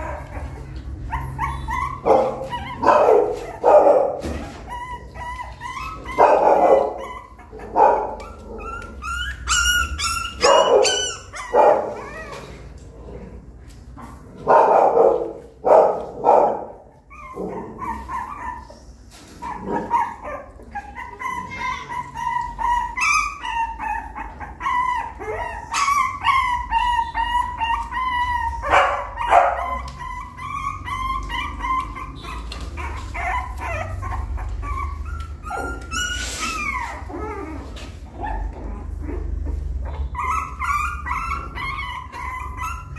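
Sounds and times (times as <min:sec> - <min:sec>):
puppy yelping and whining: 0:00.0 - 0:42.9.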